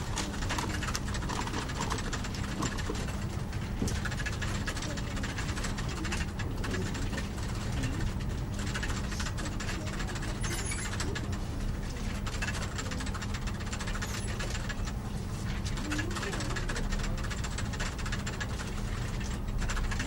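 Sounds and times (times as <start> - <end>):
small clicks and rattles: 0.0 - 20.0.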